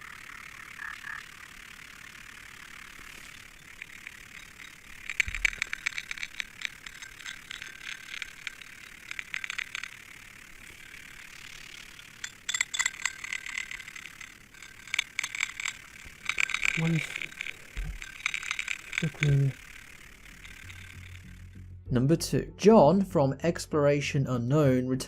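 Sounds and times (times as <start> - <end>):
rapid clicking and rattling: 0.0 - 21.6.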